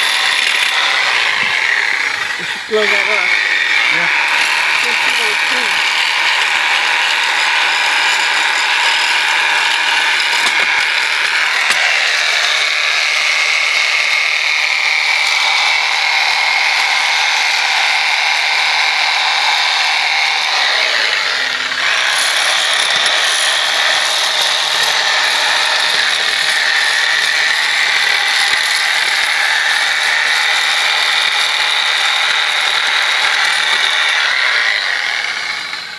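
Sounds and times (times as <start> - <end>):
power scraper rattling: 0.0 - 35.9.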